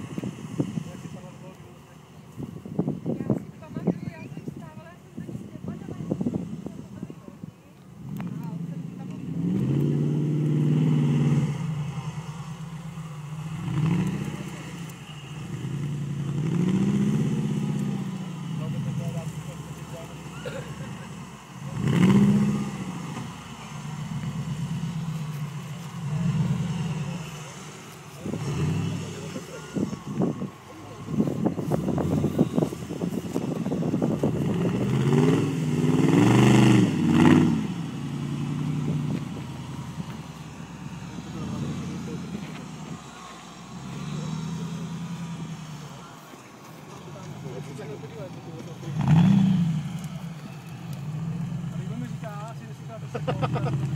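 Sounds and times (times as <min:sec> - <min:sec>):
buggy engine revving: 0:00.0 - 0:53.9.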